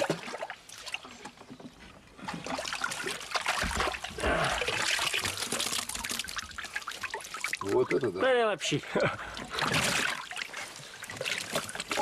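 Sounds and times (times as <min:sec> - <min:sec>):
water splashing and streaming: 0:00.0 - 0:12.0.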